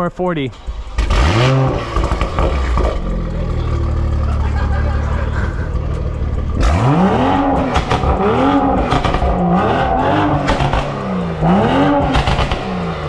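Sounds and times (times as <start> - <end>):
exhaust crackles and pops: 0.6 - 13.0
sports car engine revving: 0.6 - 13.0.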